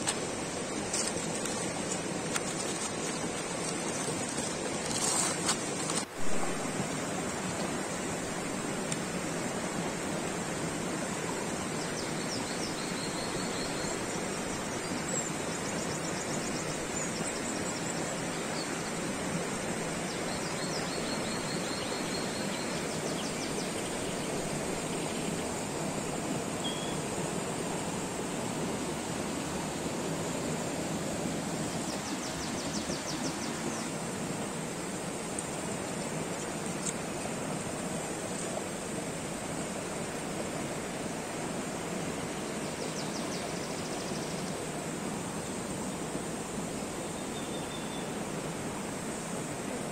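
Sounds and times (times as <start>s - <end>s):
steady rushing outdoor noise: 0.0s - 49.9s.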